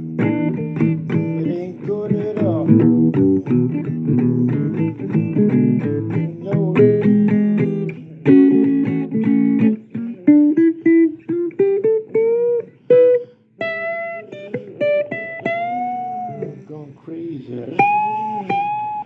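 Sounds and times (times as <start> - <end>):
blues guitar playing: 0.0 - 19.0.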